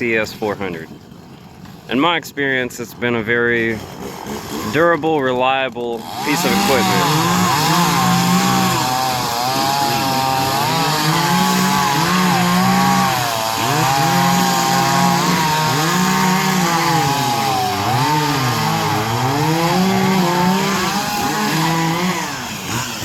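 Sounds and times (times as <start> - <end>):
chainsaw cutting wood: 0.9 - 1.9, 3.6 - 23.0.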